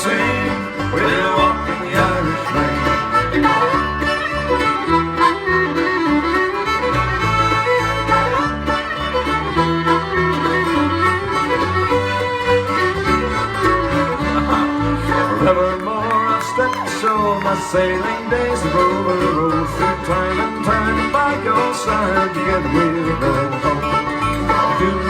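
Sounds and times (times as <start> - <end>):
accordion melody: 0.0 - 25.0
bluegrass band playing: 0.0 - 25.0
fiddle melody: 0.0 - 25.0.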